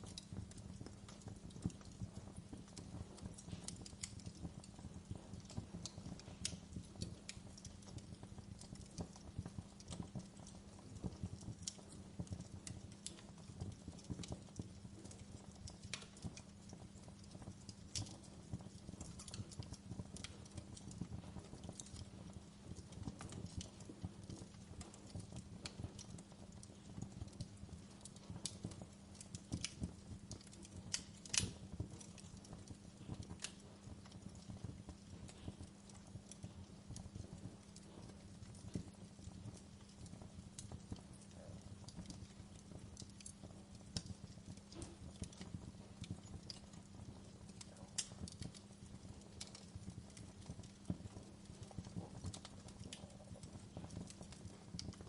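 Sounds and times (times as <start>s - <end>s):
fire pops and snaps: 0.0s - 55.0s
low fire rumble: 0.0s - 55.0s
wood fire crackling: 0.0s - 55.0s.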